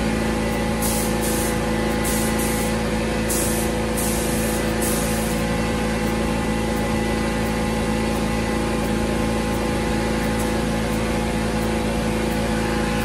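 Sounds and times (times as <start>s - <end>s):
air compressor running: 0.0s - 13.0s
paint spray hiss: 0.6s - 13.0s.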